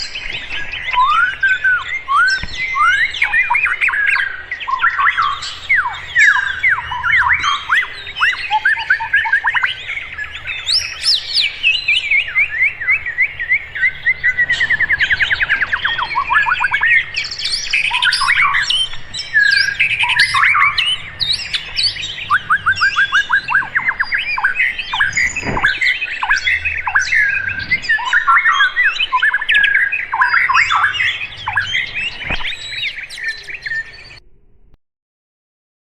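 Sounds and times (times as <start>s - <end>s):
songbirds chirping and singing: 0.0s - 34.2s.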